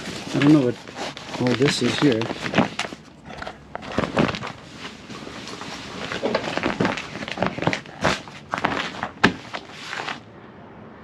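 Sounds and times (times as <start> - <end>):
tent fabric rustling: 0.0 - 10.2.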